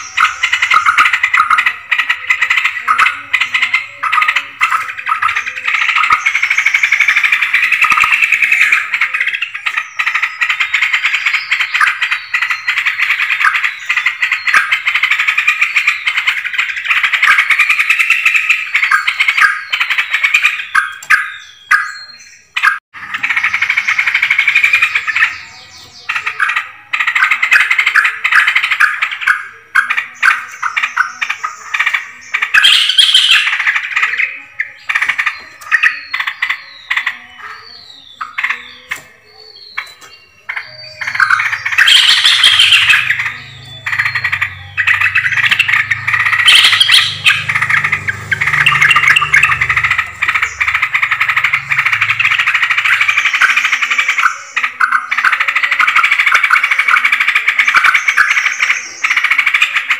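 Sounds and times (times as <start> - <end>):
bulbuls chattering: 0.0 - 59.9.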